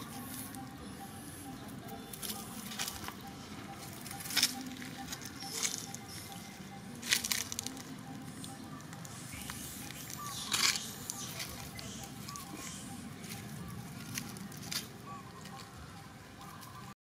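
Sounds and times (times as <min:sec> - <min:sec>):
dry leaves rustling and crackling: 0:00.0 - 0:16.9.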